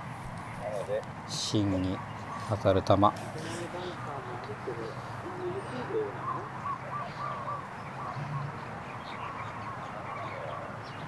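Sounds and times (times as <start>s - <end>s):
birds calling: 0.2s - 11.0s.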